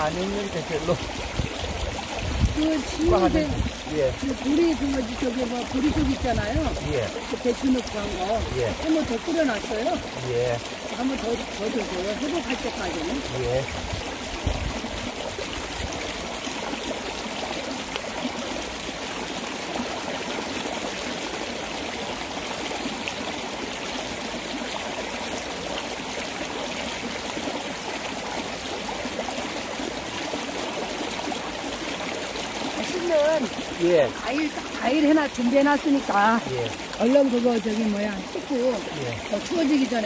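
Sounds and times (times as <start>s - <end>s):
stream flowing over rocks: 0.0s - 40.0s.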